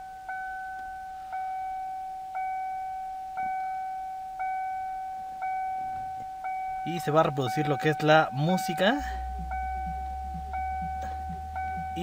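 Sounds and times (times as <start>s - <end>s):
car warning chime dinging: 0.0s - 12.0s.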